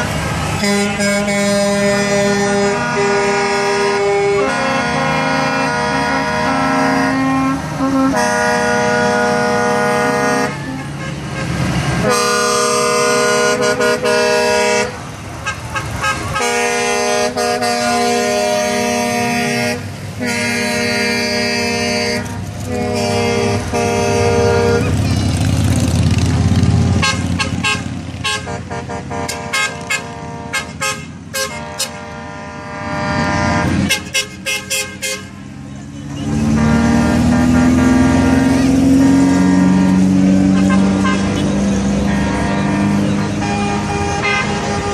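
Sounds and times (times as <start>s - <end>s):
heavy truck engine rumbling past: 0.0s - 44.9s
truck air horns blasting: 0.0s - 44.9s.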